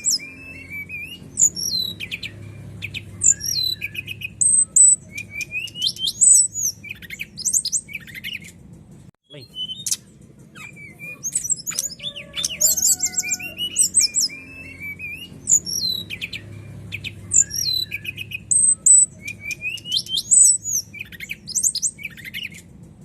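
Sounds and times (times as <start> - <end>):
bird singing trills and whistles: 0.0 - 8.6, 9.3 - 22.7.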